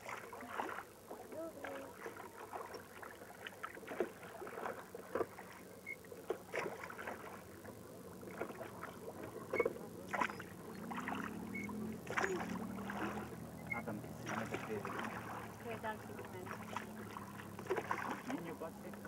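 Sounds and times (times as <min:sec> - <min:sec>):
oars splashing in water: 0:00.0 - 0:19.0
water lapping against hull: 0:00.0 - 0:19.0.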